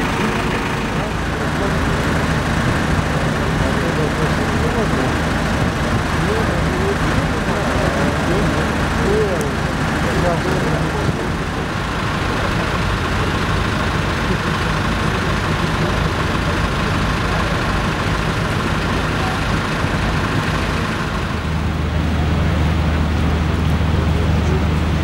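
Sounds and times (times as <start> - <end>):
heavy truck engine idling: 0.0 - 25.0.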